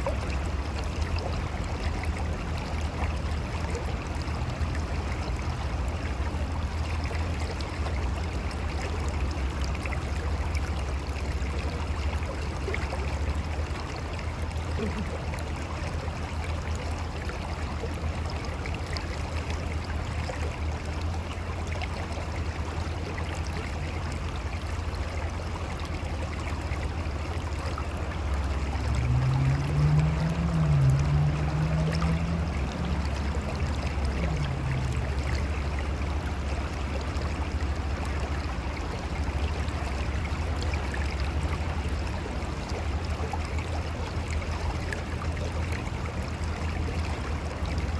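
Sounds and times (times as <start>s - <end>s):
river flowing over rocks: 0.0s - 47.9s.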